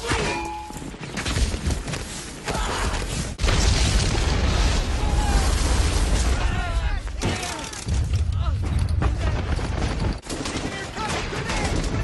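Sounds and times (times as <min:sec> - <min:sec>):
rumbling explosions: 0:01.3 - 0:12.0.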